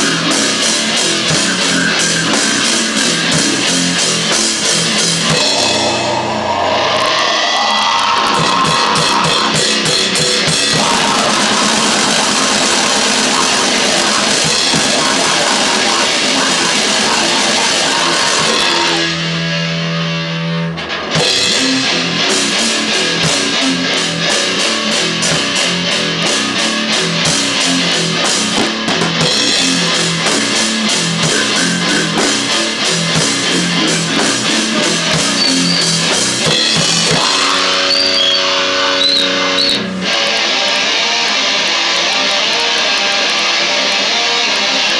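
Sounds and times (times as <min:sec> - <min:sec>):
distorted noise rock: 0:00.0 - 0:44.9.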